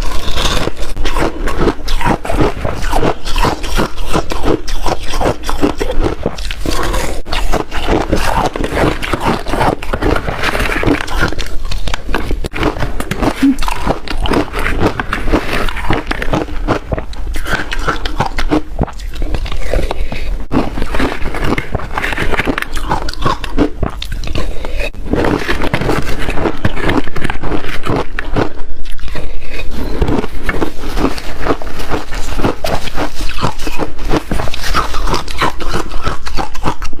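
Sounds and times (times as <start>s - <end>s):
ice being chewed: 0.0s - 37.0s.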